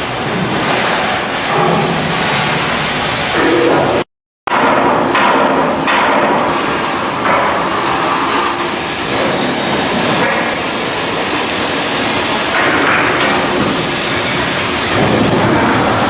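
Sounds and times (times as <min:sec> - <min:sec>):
shipyard mechanical din: 0:00.0 - 0:16.0.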